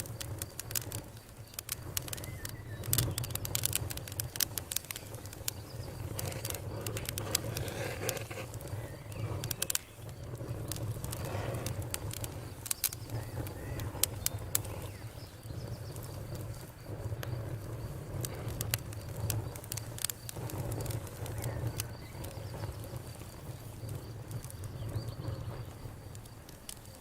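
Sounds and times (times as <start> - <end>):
burning wood crackling and popping: 0.0 - 27.0
low rumble of flames: 0.0 - 27.0.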